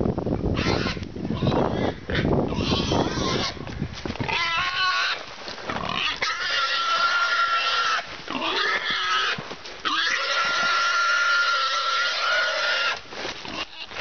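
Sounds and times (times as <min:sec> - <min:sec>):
boar squealing: 0:00.5 - 0:03.6, 0:04.3 - 0:05.2, 0:05.8 - 0:14.0.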